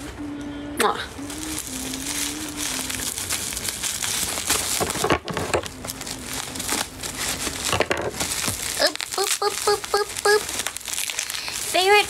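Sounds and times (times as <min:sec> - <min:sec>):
plastic wrapping crinkling: 0:01.1 - 0:12.0.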